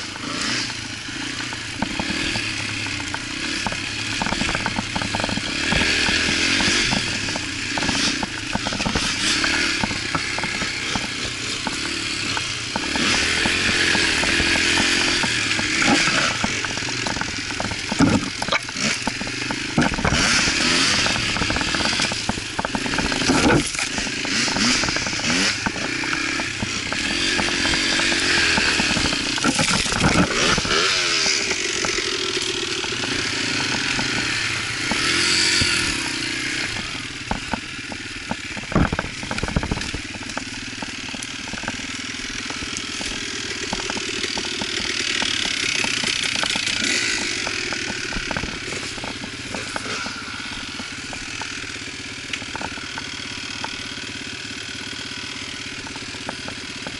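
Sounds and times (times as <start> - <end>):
bike rattling over rough trail: 0.0 - 56.9
dirt bike engine revving: 0.0 - 56.9.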